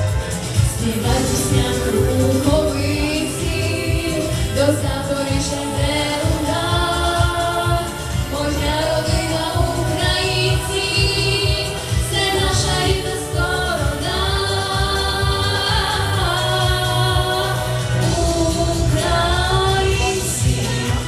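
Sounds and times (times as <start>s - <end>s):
woman singing: 0.6s - 21.0s.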